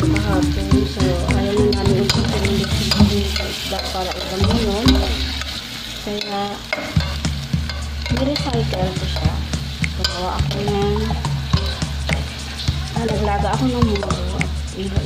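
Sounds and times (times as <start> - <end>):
onions and tomatoes sizzling in a pot: 0.0 - 15.0.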